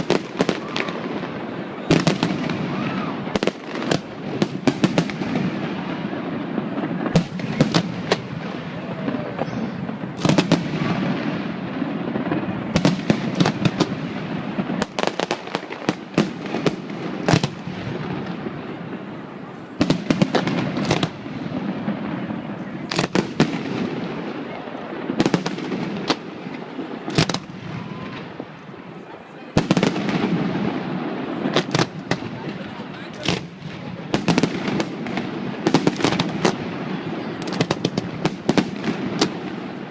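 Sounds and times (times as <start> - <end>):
constant background din: 0.0 - 39.9
fireworks exploding: 0.0 - 39.9.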